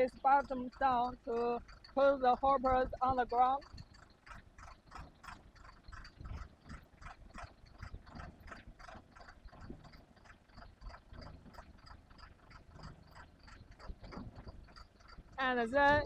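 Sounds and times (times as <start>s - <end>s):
concrete pump engine rumble: 0.0s - 16.0s
faint clicking and knocking: 0.0s - 16.0s.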